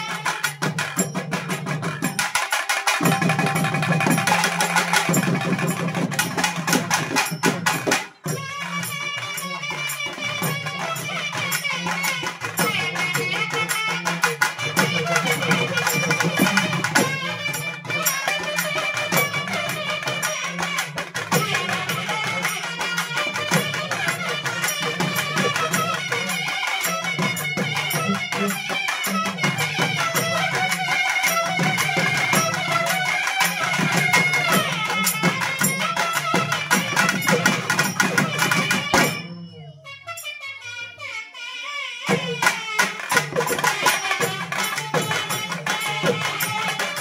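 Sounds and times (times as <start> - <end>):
barrel drums and hand drums: 0.0 - 39.7, 42.1 - 47.0.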